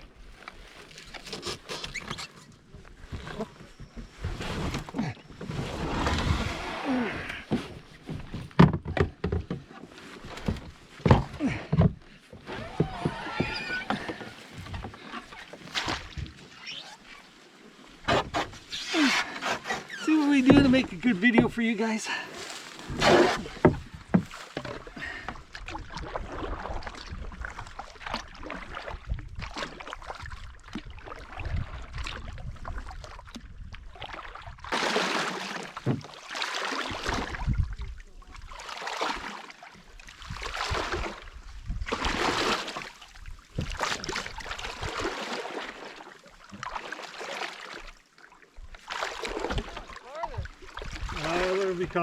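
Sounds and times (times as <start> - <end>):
paddle strokes in water: 0.0 - 52.0.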